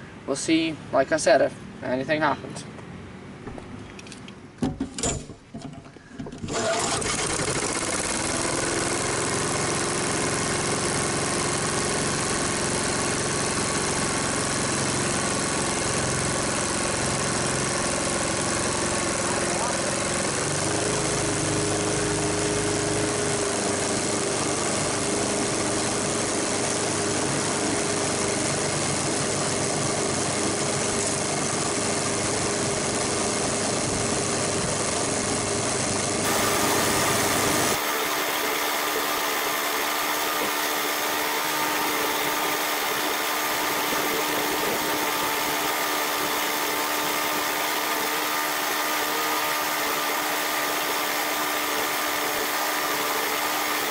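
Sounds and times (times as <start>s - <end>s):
lawn mower engine cutting grass: 6.4s - 53.9s.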